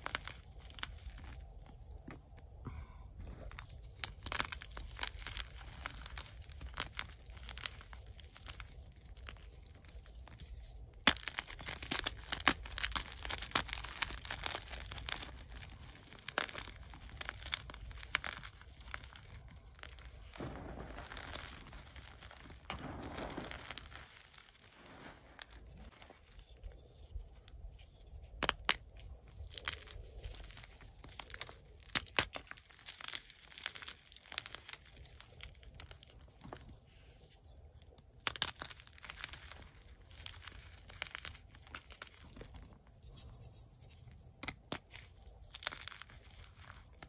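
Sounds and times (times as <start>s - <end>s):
chalk crushed in hands: 3.5s - 47.0s.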